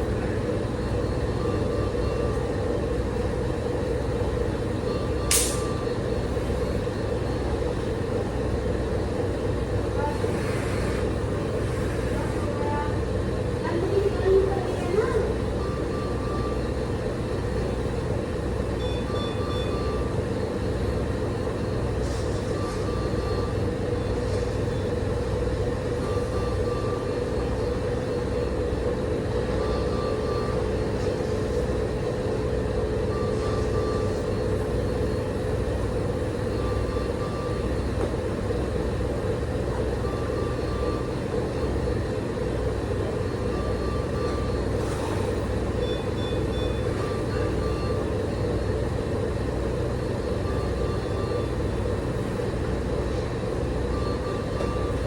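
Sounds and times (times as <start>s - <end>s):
hospital machinery humming: 0.0s - 55.0s.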